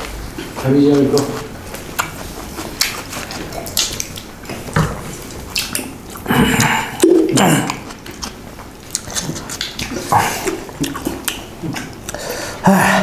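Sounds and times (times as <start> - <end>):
food squished by hand: 0.0 - 12.2
chewing and lip smacks: 0.3 - 12.4.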